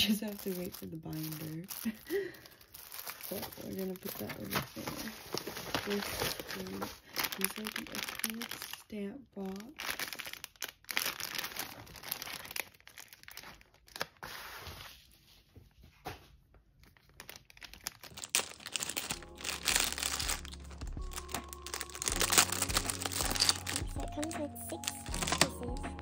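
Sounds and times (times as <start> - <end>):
plastic bags crinkling: 0.0 - 14.5, 16.8 - 26.0.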